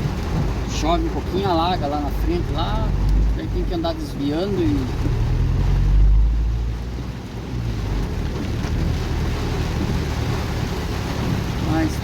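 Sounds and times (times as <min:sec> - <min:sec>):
heavy rain on truck cab: 0:00.0 - 0:12.0
low engine and road rumble: 0:00.0 - 0:12.0.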